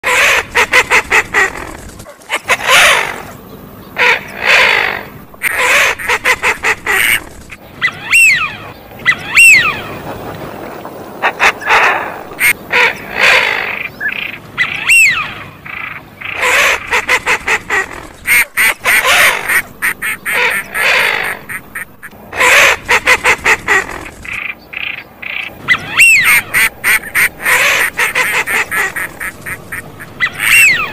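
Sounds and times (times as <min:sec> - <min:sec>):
duck calls and quacks: 0:00.0 - 0:03.4, 0:04.0 - 0:09.9, 0:11.2 - 0:30.9.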